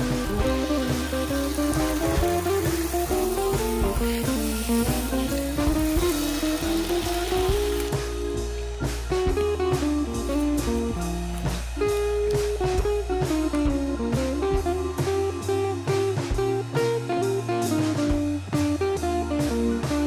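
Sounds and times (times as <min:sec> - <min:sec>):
guitar with bass and drums: 0:00.0 - 0:20.0.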